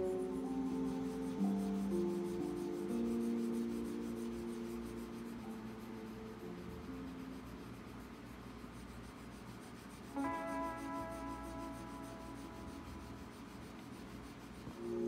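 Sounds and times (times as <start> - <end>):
quiet background music: 0.0 - 15.0
soft scratchy rubbing on paper: 0.0 - 15.0.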